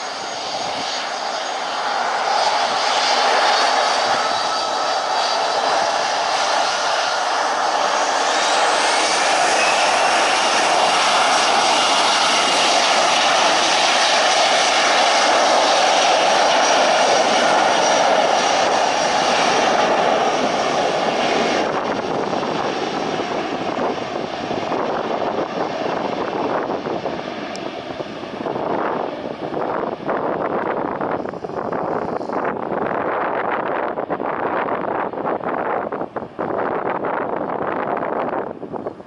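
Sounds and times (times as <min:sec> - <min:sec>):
airliner engines roaring: 0:00.0 - 0:39.0
faint engine whine: 0:00.0 - 0:39.0.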